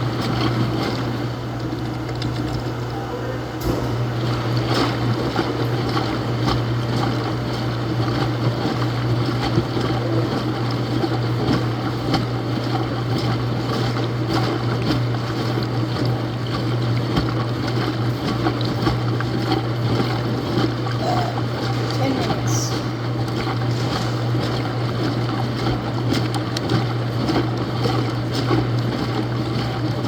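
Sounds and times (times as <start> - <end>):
washing machine running: 0.0 - 30.0.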